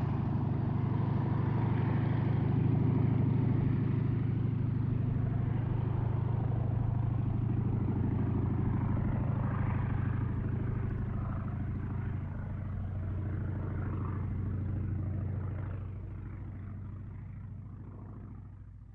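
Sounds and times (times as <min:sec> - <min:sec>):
propeller plane engine droning: 0:00.0 - 0:18.9.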